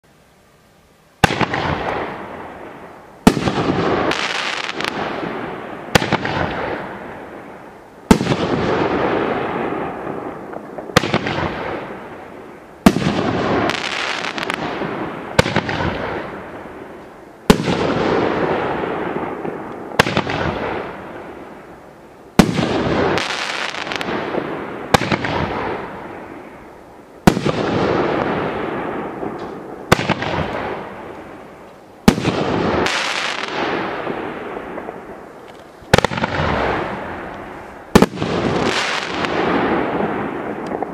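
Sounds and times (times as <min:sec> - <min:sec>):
fireworks bangs with noisy tails: 0:01.2 - 0:40.9.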